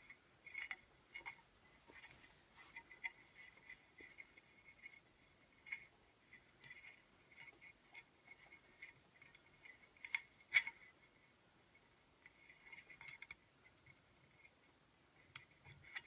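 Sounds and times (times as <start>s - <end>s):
faint ticks and rustles: 0.0s - 16.0s.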